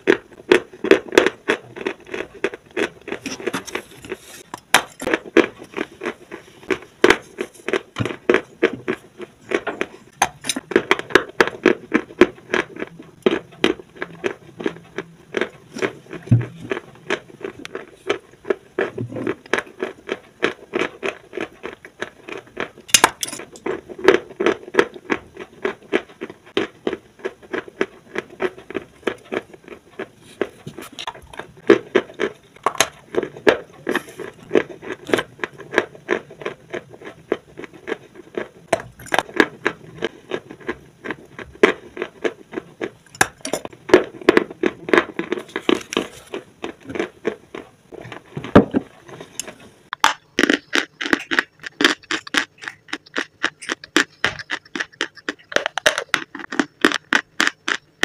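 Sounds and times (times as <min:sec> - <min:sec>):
crisp crunching and chewing: 0:00.0 - 0:58.0.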